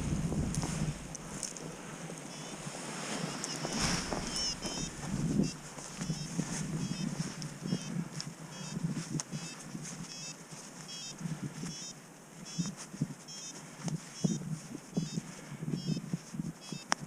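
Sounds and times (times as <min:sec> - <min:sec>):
wind on microphone: 0:00.0 - 0:10.3, 0:12.4 - 0:17.0.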